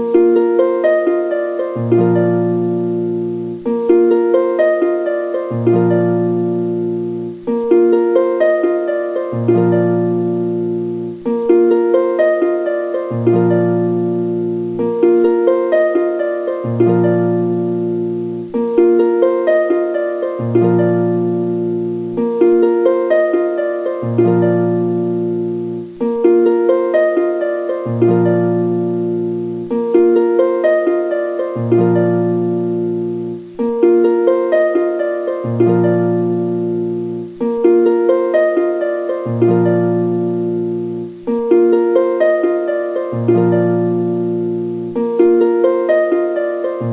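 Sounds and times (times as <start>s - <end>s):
plucked string music loop: 0.0s - 46.9s.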